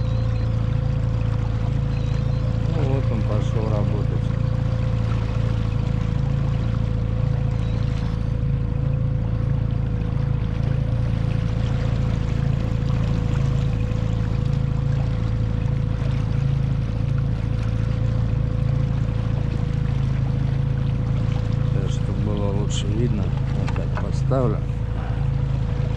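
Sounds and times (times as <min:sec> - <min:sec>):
outboard motor running: 0:00.0 - 0:25.9
water rushing past hull: 0:00.0 - 0:25.9.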